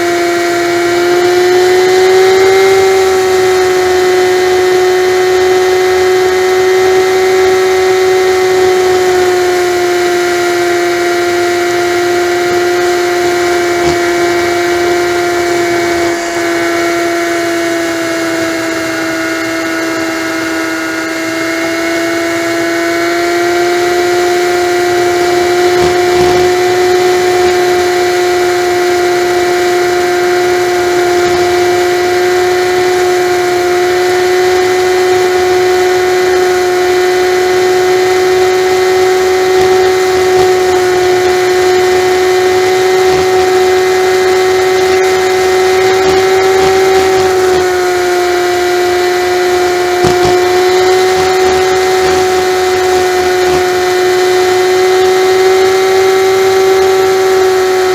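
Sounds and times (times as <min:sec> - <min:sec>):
motorcycle engine whine: 0:00.0 - 0:57.9.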